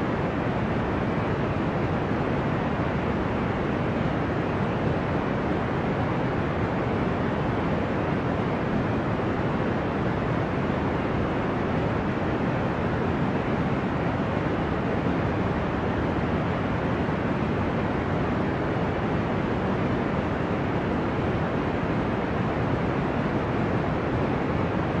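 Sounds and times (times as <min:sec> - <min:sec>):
low white noise hiss: 0:00.0 - 0:25.0.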